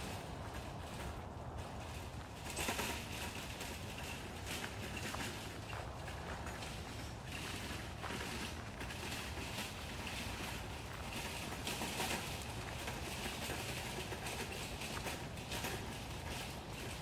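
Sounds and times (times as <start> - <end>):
footsteps crunching on dirt path: 0.0 - 17.0.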